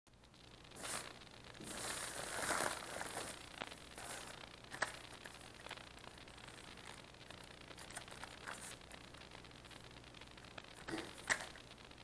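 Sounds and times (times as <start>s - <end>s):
plastic bag crinkling: 0.7s - 12.0s.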